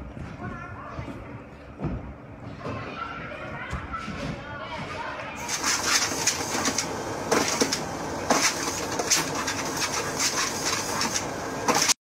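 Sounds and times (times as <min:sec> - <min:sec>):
treadmill whirring: 0:02.1 - 0:12.0.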